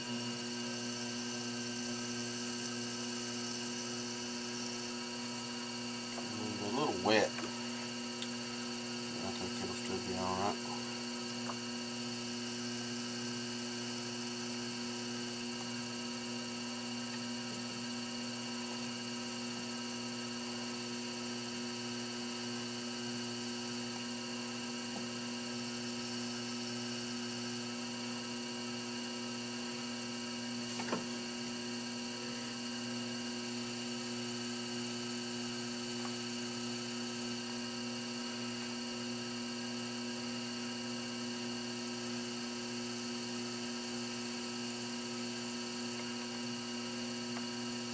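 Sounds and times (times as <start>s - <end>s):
potter's wheel motor humming: 0.0s - 47.9s.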